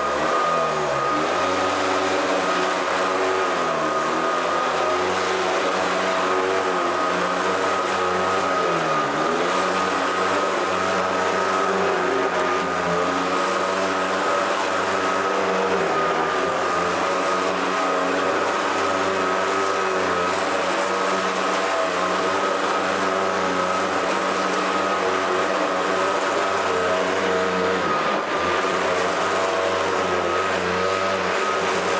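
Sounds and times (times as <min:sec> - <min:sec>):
vacuum cleaner running: 0:00.0 - 0:31.9.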